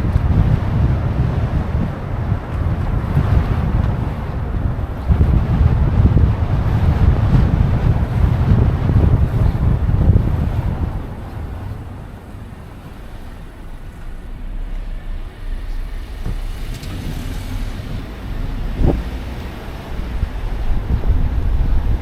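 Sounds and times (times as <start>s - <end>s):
road traffic rumble: 0.0s - 22.0s
wind buffeting microphone: 0.0s - 22.0s.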